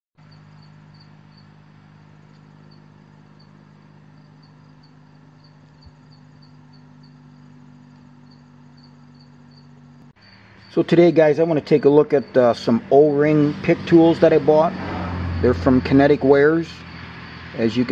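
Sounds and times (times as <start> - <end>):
insect chirping: 0.2 - 17.9
steady low hum: 0.2 - 17.9.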